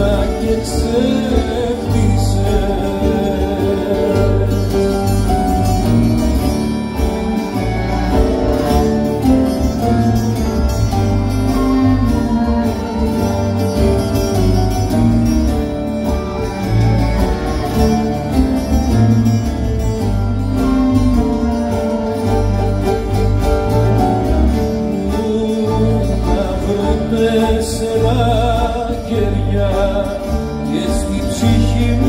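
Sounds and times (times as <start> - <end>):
electric bass line: 0.0 - 32.0
plucked guitar: 0.0 - 32.0.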